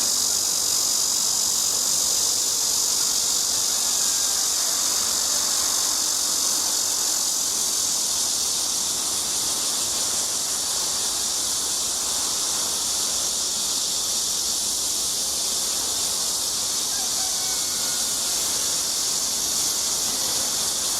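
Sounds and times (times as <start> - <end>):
high-pitched insect chorus: 0.0 - 20.9.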